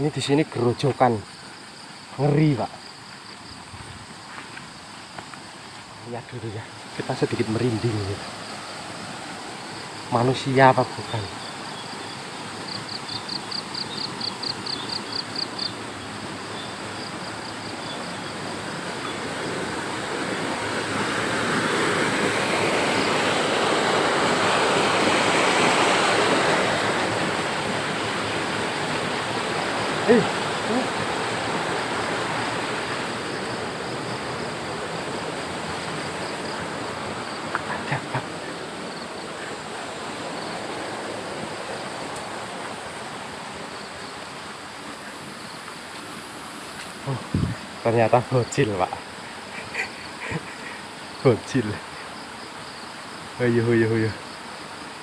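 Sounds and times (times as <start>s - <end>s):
water rushing over cascade: 4.8s - 55.0s.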